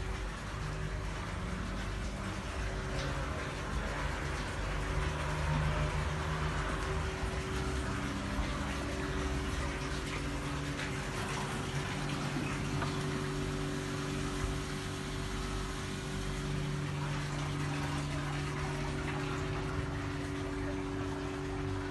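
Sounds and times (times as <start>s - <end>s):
machinery humming: 0.0s - 21.9s.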